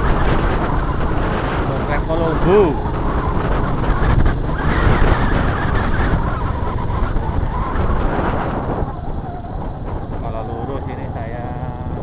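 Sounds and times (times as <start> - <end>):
motorcycle engine rumble: 0.0 - 12.0
road noise: 0.0 - 12.0
wind rush: 0.0 - 12.0.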